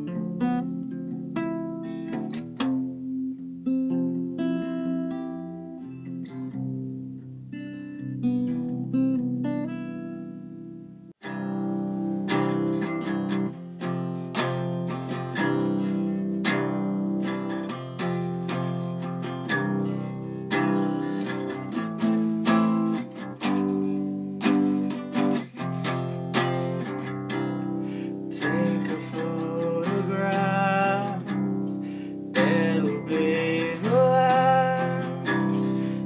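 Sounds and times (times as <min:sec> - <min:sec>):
acoustic guitar strumming: 0:00.0 - 0:36.0.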